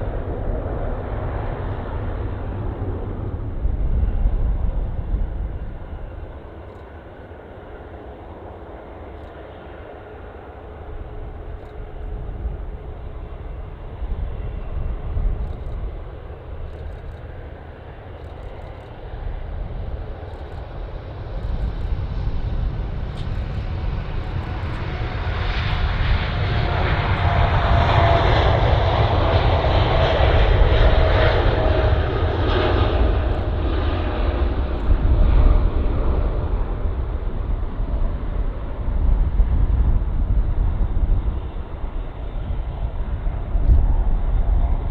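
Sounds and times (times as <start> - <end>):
jet engines passing: 0.0 - 44.9.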